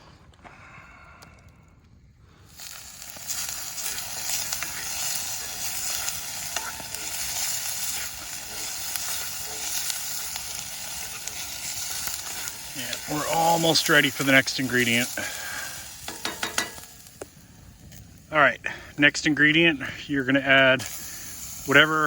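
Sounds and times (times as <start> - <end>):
vegetables sizzling in oil: 2.5 - 22.0.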